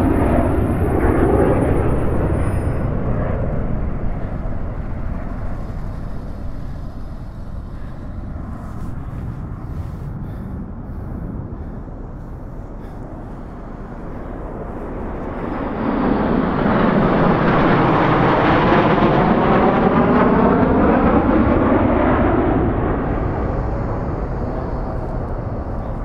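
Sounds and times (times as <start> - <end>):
jet aircraft roaring overhead: 0.0 - 26.0
wind rumble on microphone: 0.0 - 26.0.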